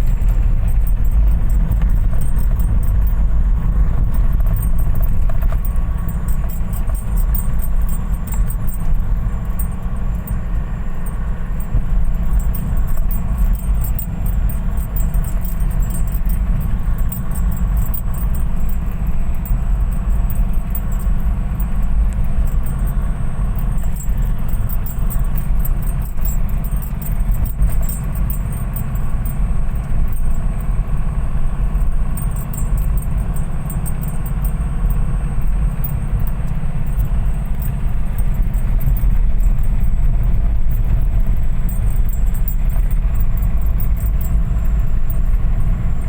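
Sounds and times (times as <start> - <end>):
light rattling: 0.0 - 46.0
vehicle road rumble: 0.0 - 46.0.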